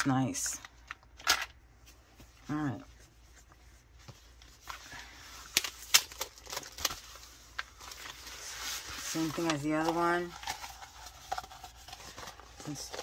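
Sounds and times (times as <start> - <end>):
paper rustling: 1.3 - 13.0.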